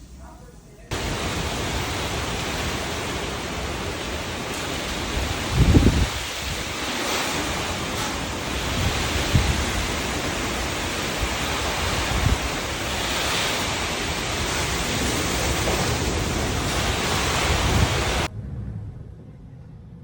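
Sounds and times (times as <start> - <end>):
wind buffeting microphone: 0.9 - 18.3
strong wind rushing: 0.9 - 19.2.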